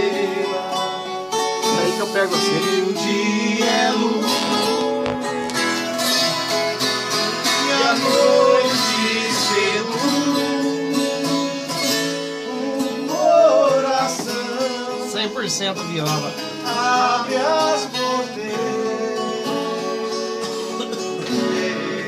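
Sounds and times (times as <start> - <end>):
men singing: 0.0 - 5.2, 7.3 - 15.4, 16.4 - 22.0
guitars plucked and strummed: 0.0 - 22.0.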